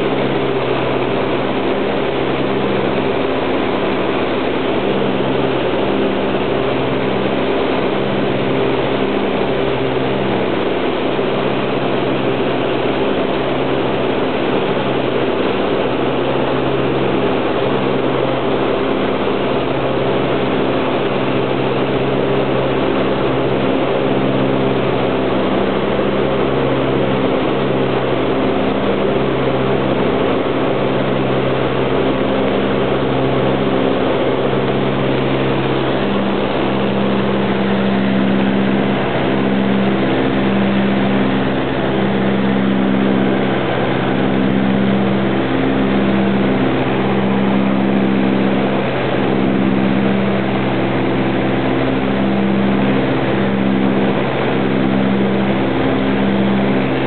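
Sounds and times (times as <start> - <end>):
twin aircraft engines droning: 0.0 - 57.0.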